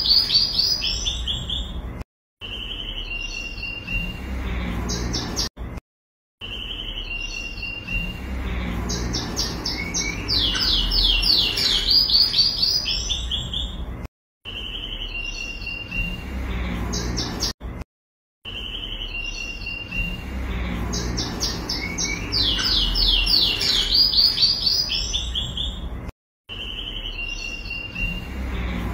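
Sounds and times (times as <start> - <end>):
nestlings chirping: 0.0 - 5.5, 6.4 - 17.6, 18.5 - 28.9.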